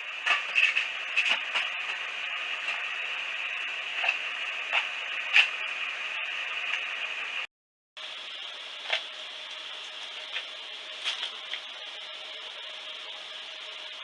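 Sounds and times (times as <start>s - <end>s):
roof mechanism humming: 0.0s - 14.0s.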